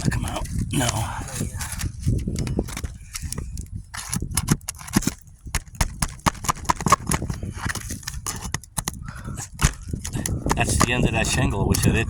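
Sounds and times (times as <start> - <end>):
shingles cracking and breaking: 1.6 - 12.0.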